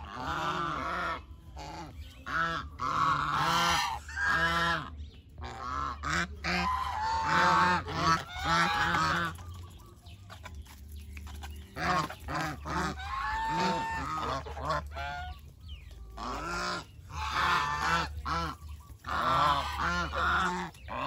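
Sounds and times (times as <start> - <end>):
geese honking: 0.0 - 10.4, 11.7 - 21.0.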